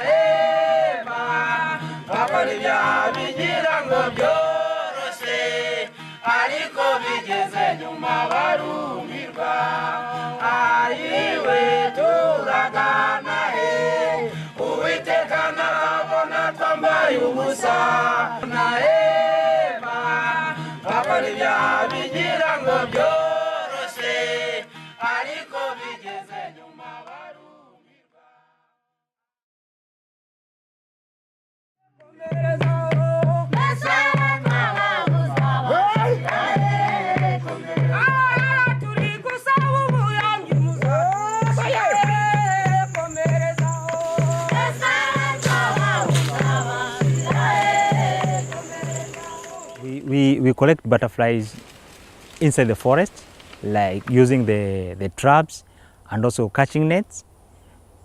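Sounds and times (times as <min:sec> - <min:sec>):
choir-like group singing: 0:00.0 - 0:28.7, 0:32.0 - 0:50.3.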